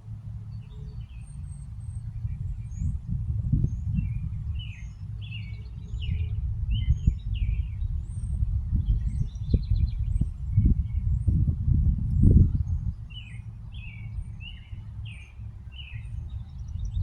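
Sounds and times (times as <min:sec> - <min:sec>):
low rumble: 0:00.0 - 0:17.0
small birds chirping: 0:00.0 - 0:17.0.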